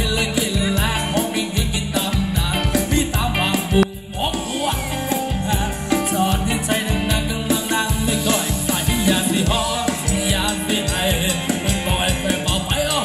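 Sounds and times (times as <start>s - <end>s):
band playing dance music: 0.0s - 13.0s.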